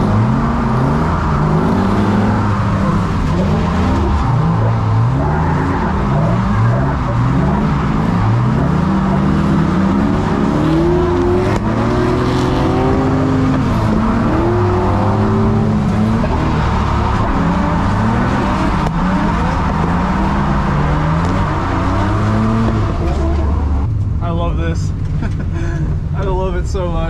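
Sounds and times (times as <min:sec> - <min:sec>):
car engine revving hard: 0:00.0 - 0:23.9
tyre and road noise: 0:00.0 - 0:27.0.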